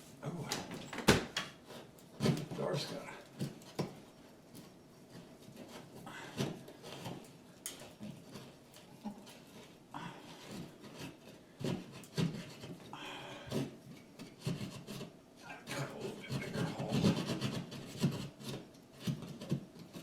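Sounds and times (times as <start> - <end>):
wires scraping inside wall: 1.5 - 20.0.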